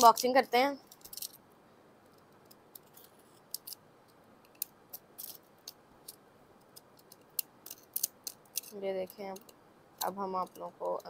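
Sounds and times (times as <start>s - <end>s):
small sharp clicks and crackles: 0.0s - 1.4s, 2.0s - 11.0s.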